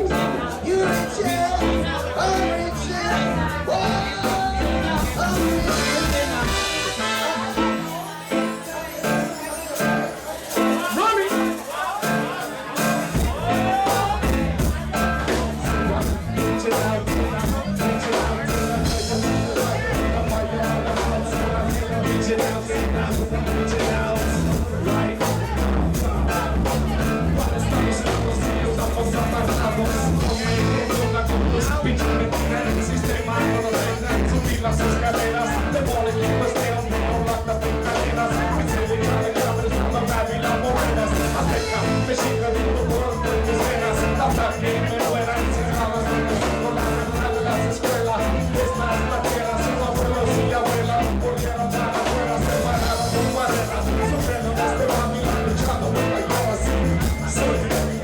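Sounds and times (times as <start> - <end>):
heavy bass: 0.0 - 8.9, 12.6 - 58.0
drums keeping a steady beat: 0.0 - 58.0
live reggae band playing: 0.0 - 58.0.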